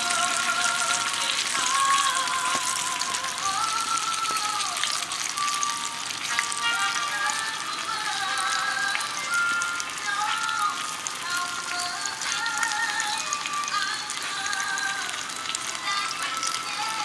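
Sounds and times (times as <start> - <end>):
background music with melody: 0.0 - 17.0
oil sizzling and crackling: 0.0 - 17.0.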